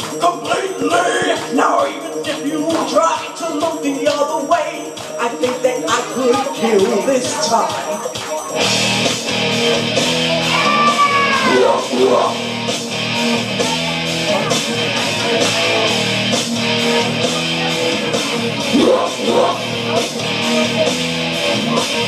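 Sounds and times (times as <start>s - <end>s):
rock guitar chords: 0.0s - 22.0s
steady drum beat: 0.0s - 22.0s.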